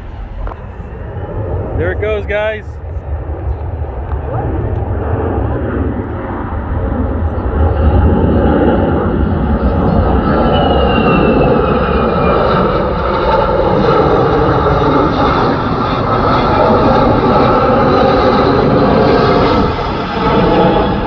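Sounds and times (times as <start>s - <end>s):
aircraft engine passing overhead: 0.0s - 21.0s.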